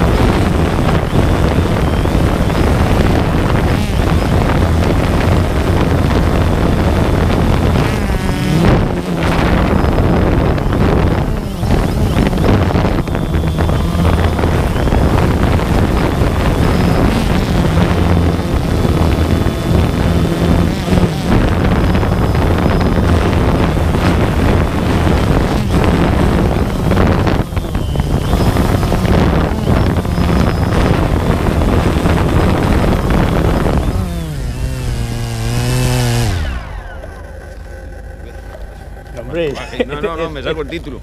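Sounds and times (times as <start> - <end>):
drone motors humming: 0.0 - 41.0
wind buffeting microphone: 0.0 - 41.0.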